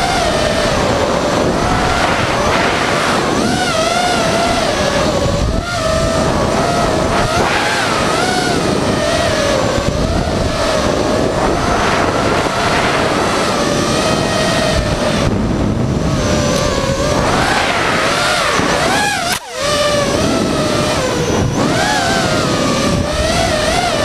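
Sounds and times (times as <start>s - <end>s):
quadcopter motors whining: 0.0s - 24.0s
rush of air: 0.7s - 23.2s.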